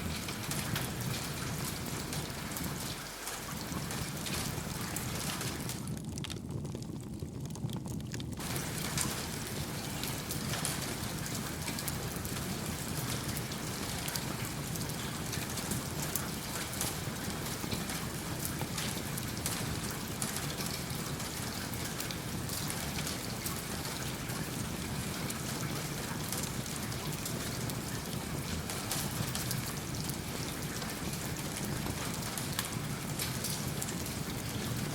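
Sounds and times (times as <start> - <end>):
steady rain: 0.0 - 34.9
wood fire crackling: 0.0 - 34.9.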